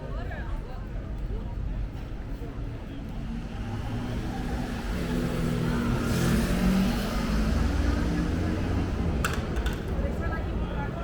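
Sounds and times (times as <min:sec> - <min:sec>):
city street noise: 0:00.0 - 0:11.0.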